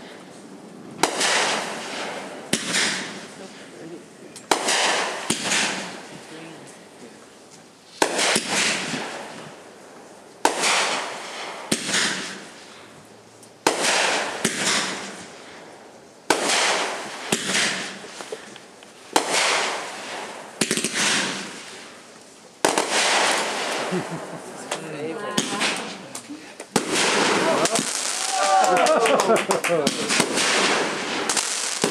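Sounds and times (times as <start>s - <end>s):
fireworks bangs: 0.0s - 6.7s, 7.9s - 12.9s, 13.6s - 31.9s.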